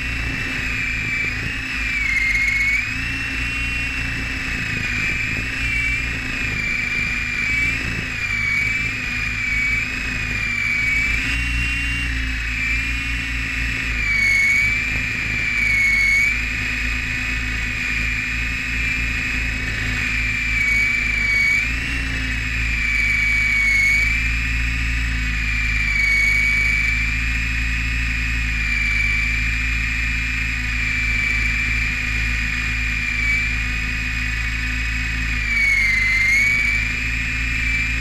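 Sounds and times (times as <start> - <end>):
rc helicopter motor whine: 0.0 - 38.0.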